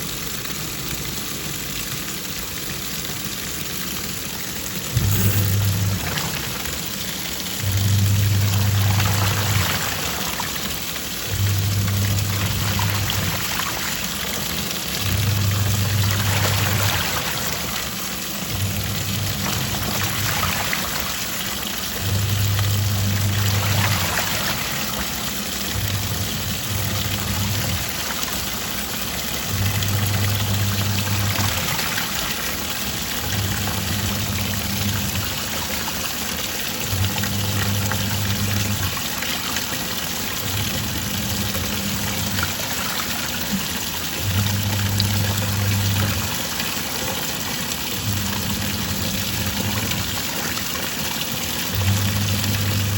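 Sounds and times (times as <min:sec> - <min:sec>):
washing machine motor humming: 0:00.0 - 0:52.9
water churning in washing machine: 0:00.0 - 0:52.9.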